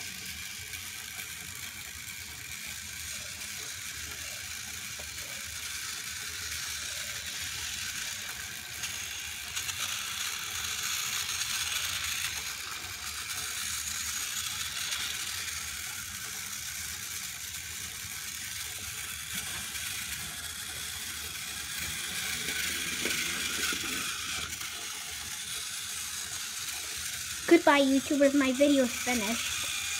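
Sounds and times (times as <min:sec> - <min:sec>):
toy train motors whirring: 0:00.0 - 0:29.9.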